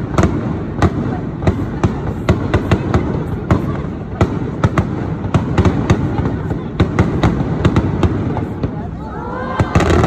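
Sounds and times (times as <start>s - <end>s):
fireworks bursting with sharp cracks: 0.0s - 10.0s.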